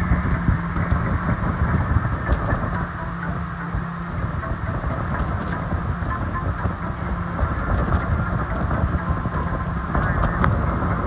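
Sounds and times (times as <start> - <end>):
speedboat engines droning: 0.0 - 11.0
wind buffeting microphone: 0.0 - 11.0.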